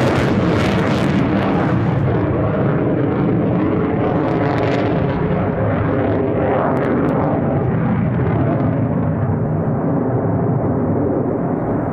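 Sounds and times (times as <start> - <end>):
military jet rumbling: 0.0 - 11.9.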